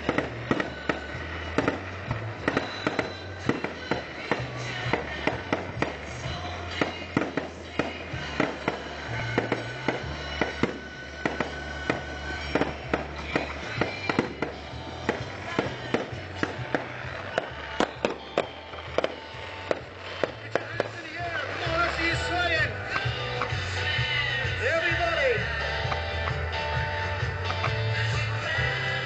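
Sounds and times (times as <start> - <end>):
deep bass music: 0.0 - 29.0
fireworks bangs and crackles: 0.0 - 29.0.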